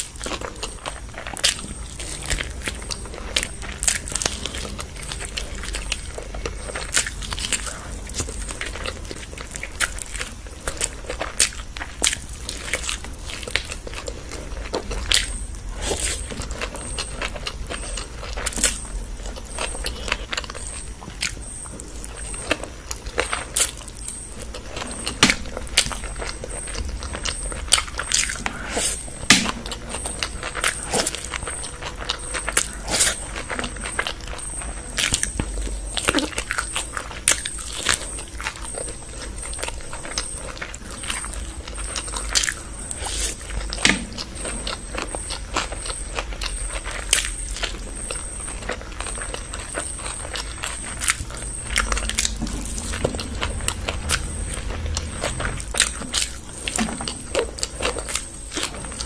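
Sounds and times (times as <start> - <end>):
wet chewing with mouth clicks: 0.0 - 59.0.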